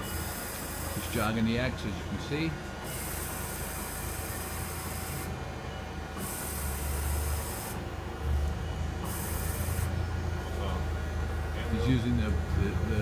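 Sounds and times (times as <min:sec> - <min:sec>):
mill table drive humming: 0:00.0 - 0:13.0.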